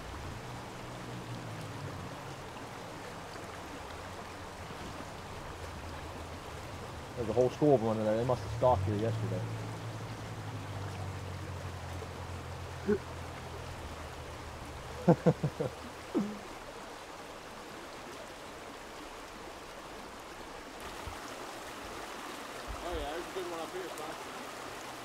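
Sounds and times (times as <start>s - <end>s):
stream flowing over rocks: 0.0s - 25.0s.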